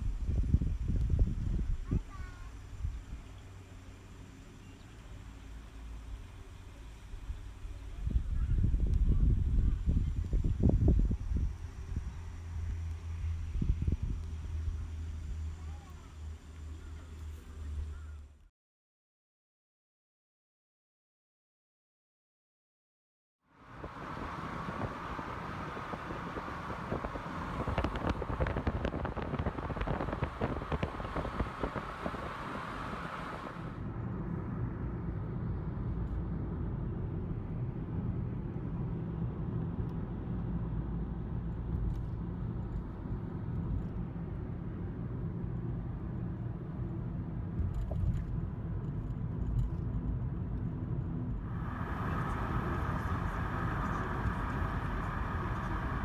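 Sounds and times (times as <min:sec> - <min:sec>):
car engine and tyre noise: 0:02.6 - 0:18.4, 0:23.5 - 0:56.0.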